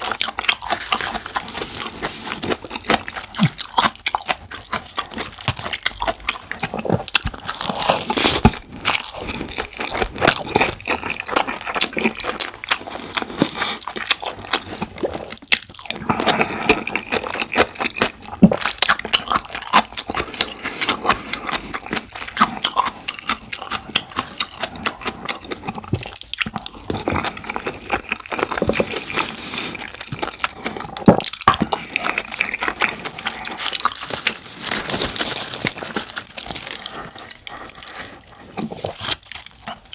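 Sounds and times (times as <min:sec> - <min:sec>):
close-miked chewing: 0:00.0 - 0:39.9.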